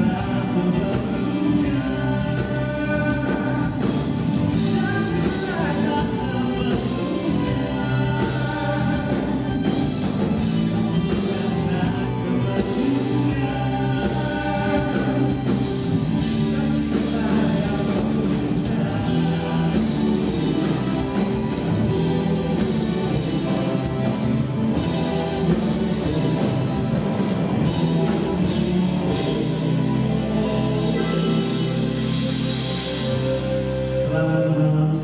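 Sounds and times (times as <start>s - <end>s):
live band playing: 0.0s - 35.0s
man singing lead vocals: 0.0s - 35.0s.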